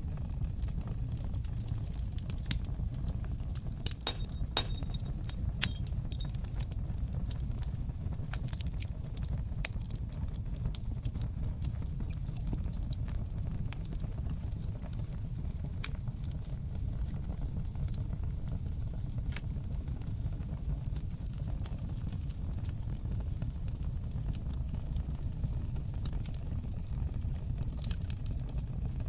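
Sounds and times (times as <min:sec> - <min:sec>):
fire crackling and popping: 0:00.0 - 0:29.0
low rumble of flames: 0:00.0 - 0:29.0.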